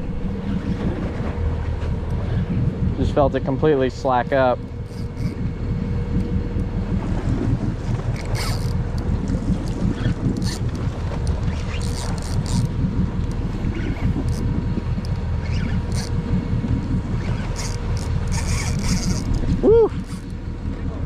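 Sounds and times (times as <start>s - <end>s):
boat motor running: 0.0s - 21.0s
wind buffeting microphone: 0.0s - 21.0s.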